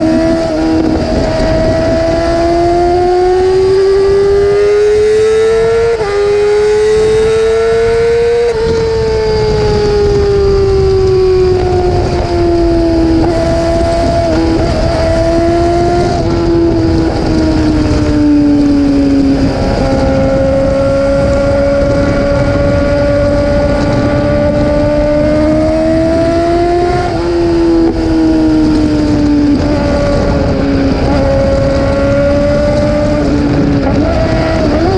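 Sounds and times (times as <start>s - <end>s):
motorcycle engine revving high: 0.0s - 34.9s.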